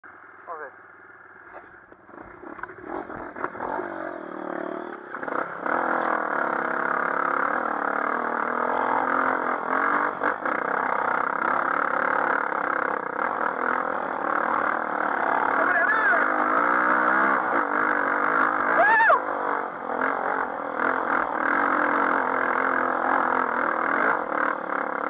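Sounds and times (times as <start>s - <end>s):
dirt bike engine revving: 1.4s - 25.0s.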